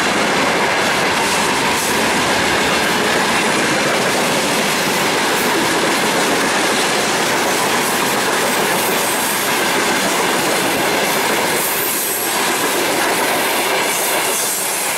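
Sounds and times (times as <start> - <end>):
freight train wheels clattering: 0.0 - 14.9.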